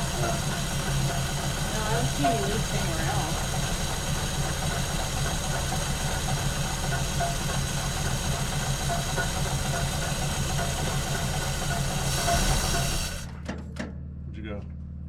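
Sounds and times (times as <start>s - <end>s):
car engine idling: 0.0s - 14.1s.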